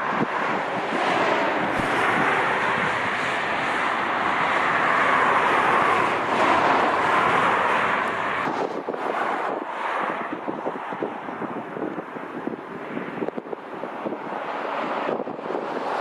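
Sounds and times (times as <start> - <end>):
jet engines passing: 0.0 - 16.0
wind buffeting microphone: 0.0 - 16.0.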